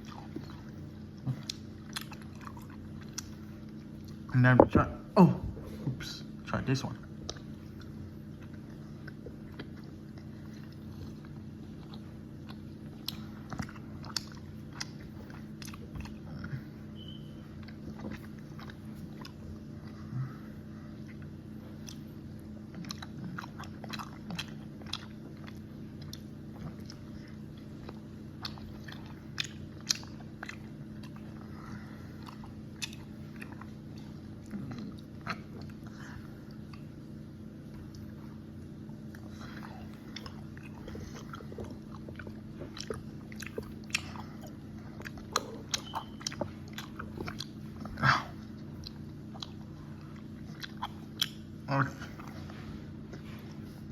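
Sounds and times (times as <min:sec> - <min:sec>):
person chewing candy: 0:00.0 - 0:04.4, 0:07.0 - 0:53.9
steady low hum: 0:00.0 - 0:53.9.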